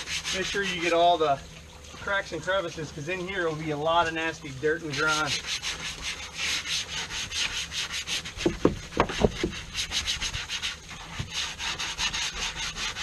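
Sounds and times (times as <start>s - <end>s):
brush scrubbing wet vinyl: 0.0s - 13.0s.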